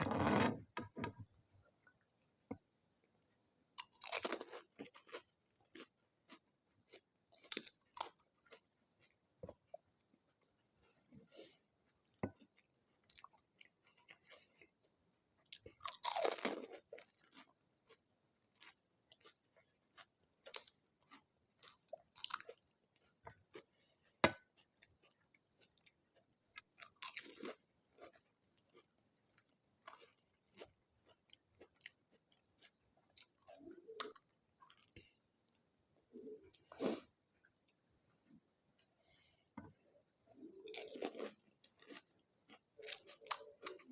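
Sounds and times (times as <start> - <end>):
crunching and chewing food: 3.0 - 43.9.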